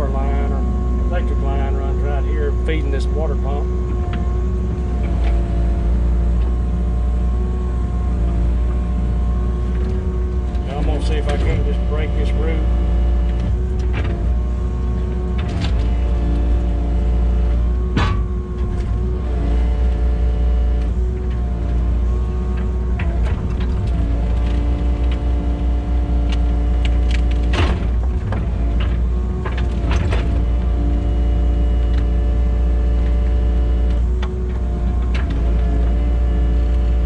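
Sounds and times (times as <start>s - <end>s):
excavator diesel engine under load: 0.0s - 37.0s.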